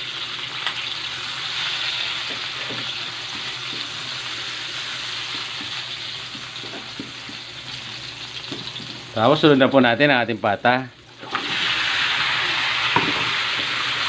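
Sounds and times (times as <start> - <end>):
food sizzling in hot oil: 0.0 - 9.9, 11.0 - 14.0.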